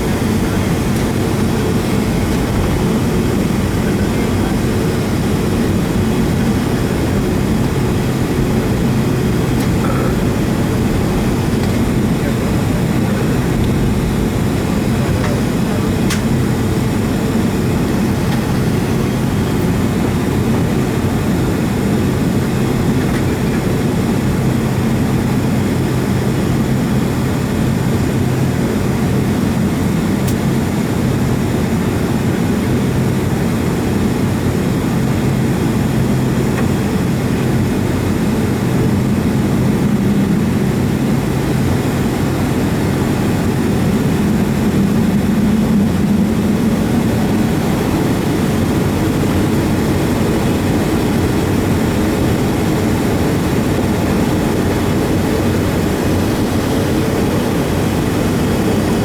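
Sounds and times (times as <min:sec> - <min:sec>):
jet engine low hum in cabin: 0:00.0 - 0:59.0.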